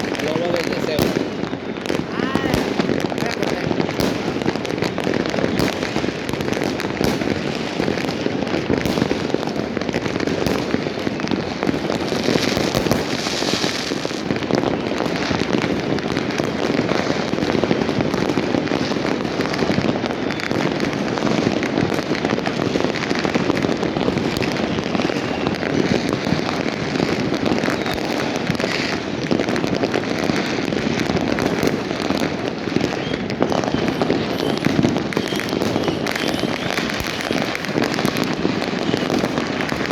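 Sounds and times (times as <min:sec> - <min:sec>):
fireworks and firecrackers banging: 0:00.0 - 0:39.9
fireworks hissing: 0:00.0 - 0:39.9.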